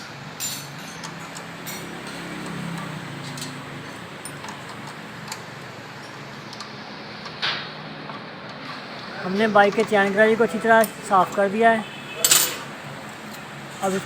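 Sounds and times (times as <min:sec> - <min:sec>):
steady background hiss: 0:02.6 - 0:14.0.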